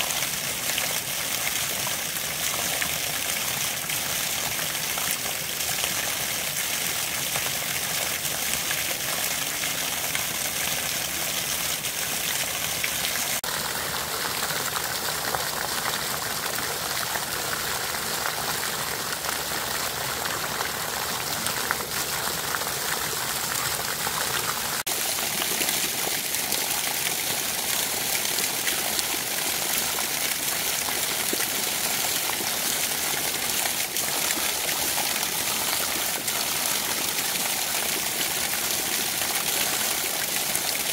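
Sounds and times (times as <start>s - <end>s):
stream rushing over rock: 0.0s - 40.9s.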